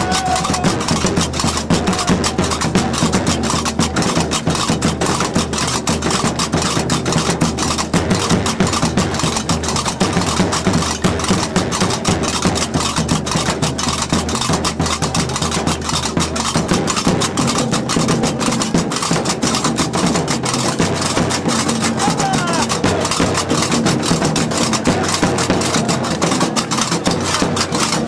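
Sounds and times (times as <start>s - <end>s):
large drum beating: 0.0s - 28.0s.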